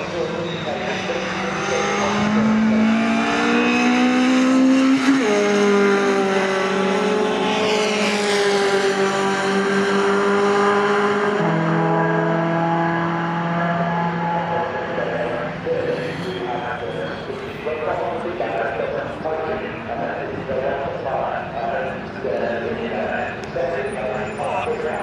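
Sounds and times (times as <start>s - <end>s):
racing truck engines at full throttle: 0.0s - 25.0s.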